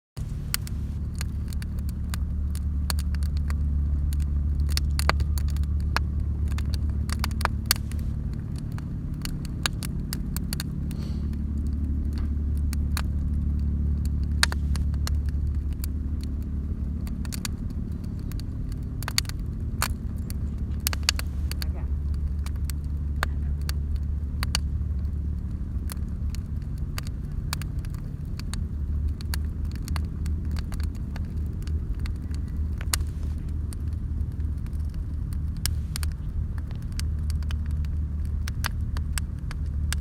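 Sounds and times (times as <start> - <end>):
bonfire crackling and popping: 0.2 - 40.0
low rumble: 0.2 - 40.0.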